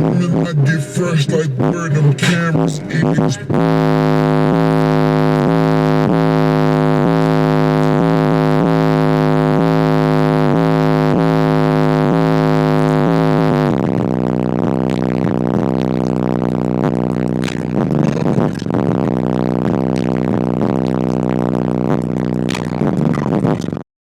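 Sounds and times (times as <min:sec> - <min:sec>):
deep pulsing bass: 0:00.0 - 0:23.7
rap music through car stereo: 0:00.0 - 0:23.8.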